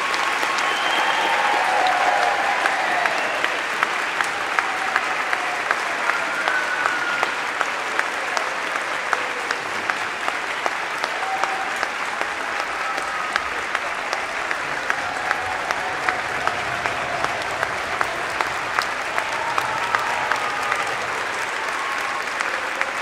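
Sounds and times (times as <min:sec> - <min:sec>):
audience applauding: 0:00.0 - 0:23.0
sharp rhythmic claps: 0:00.0 - 0:23.0.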